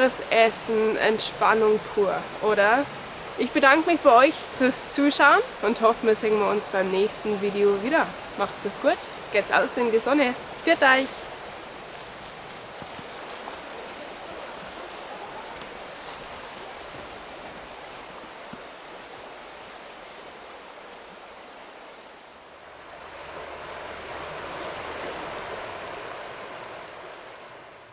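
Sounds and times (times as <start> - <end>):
river water babbling: 0.0 - 27.9.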